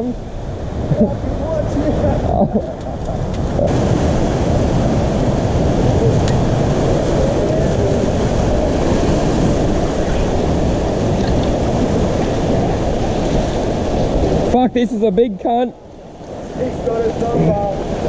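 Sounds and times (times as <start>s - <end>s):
ocean surf against rocks: 0.0s - 18.0s
wind rumbling on microphone: 0.0s - 18.0s.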